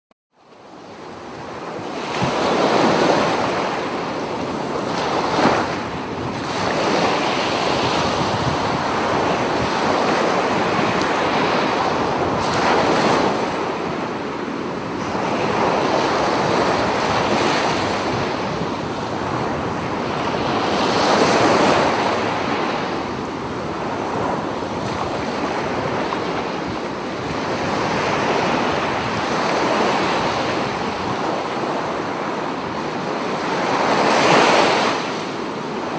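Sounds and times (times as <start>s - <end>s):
waves breaking on beach: 0.6s - 35.9s.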